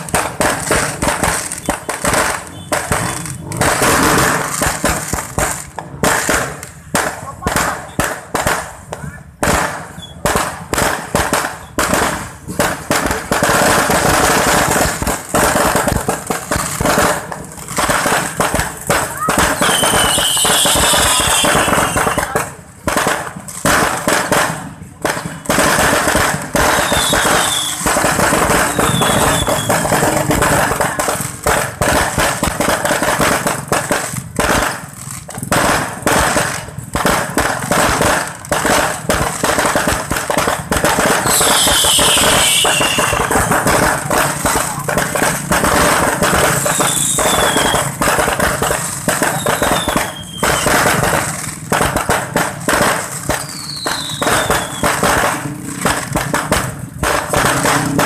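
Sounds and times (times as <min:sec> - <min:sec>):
fireworks falling whistles: 0:00.0 - 0:06.9, 0:07.6 - 0:58.0
fireworks crackling and bursting: 0:00.0 - 0:58.0.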